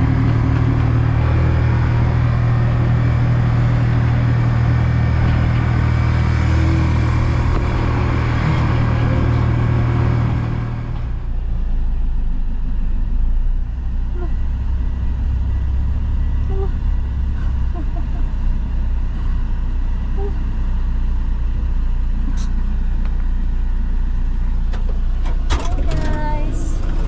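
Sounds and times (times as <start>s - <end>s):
road and wind noise: 0.0s - 27.0s
vehicle engine running: 0.0s - 27.0s.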